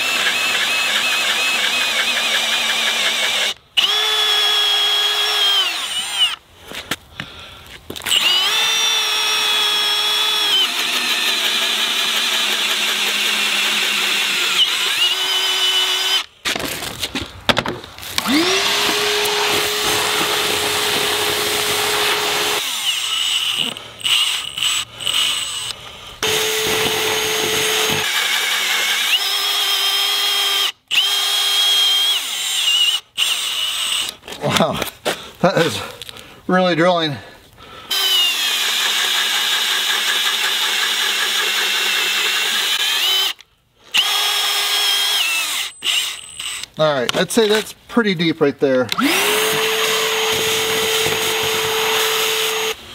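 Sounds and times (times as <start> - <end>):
hammer drill boring into log: 0.0 - 6.4, 8.0 - 16.3, 18.2 - 34.2, 37.9 - 46.8, 48.9 - 52.9.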